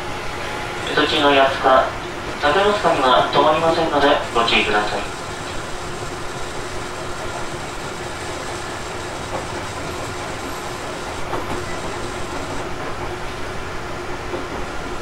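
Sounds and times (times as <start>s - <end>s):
train wheels rumbling on rail: 0.0s - 15.0s
train clatter: 0.4s - 15.0s.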